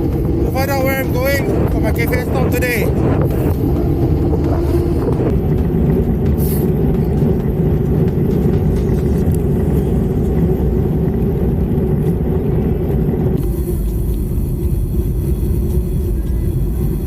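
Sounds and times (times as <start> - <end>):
road noise while cycling: 0.0 - 17.0
wind buffeting microphone: 0.0 - 17.0.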